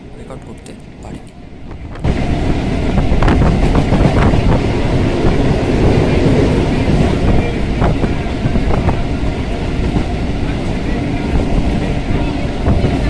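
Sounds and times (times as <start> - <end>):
train wheels rumbling on rails: 0.0 - 13.0
wind on microphone: 1.6 - 13.0.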